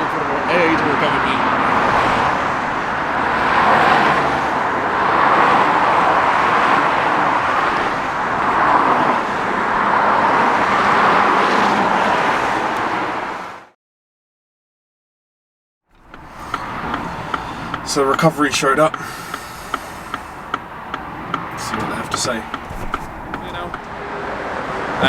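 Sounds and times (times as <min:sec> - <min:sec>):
motorway traffic rushing past: 0:00.0 - 0:13.8, 0:16.0 - 0:25.0.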